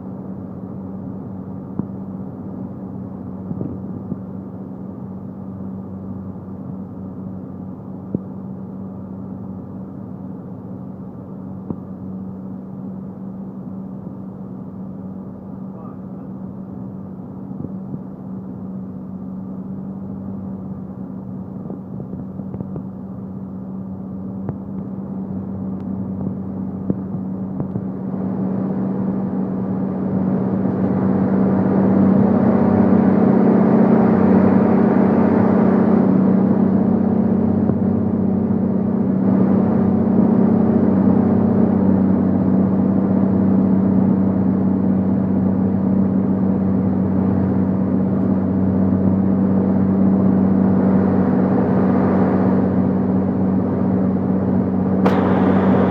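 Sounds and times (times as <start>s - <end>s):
propeller plane engine droning: 0.0s - 55.9s.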